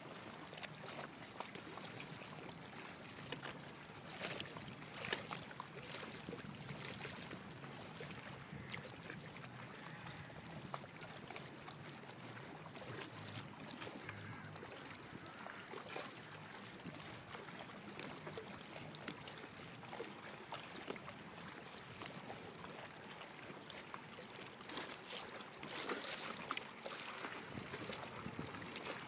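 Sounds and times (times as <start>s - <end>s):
small waves lapping and splashing: 0.0s - 29.0s.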